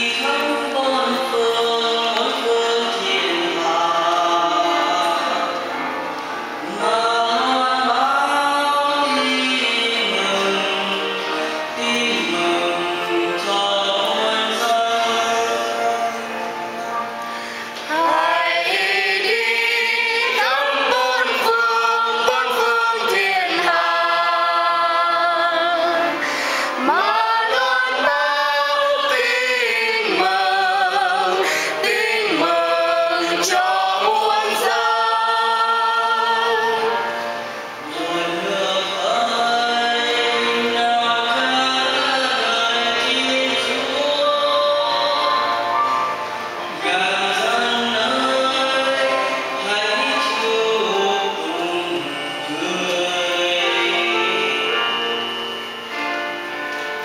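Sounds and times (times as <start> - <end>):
choir singing: 0.0 - 57.0
musical accompaniment: 0.0 - 57.0
person singing with vibrato: 0.0 - 57.0.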